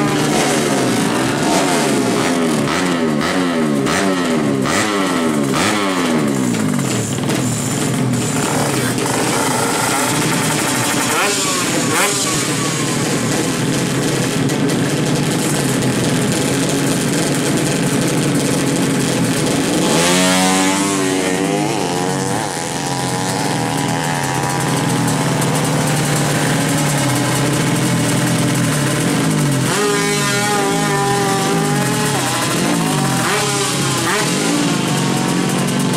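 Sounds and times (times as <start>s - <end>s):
motorcycle engines revving: 0.0s - 35.9s.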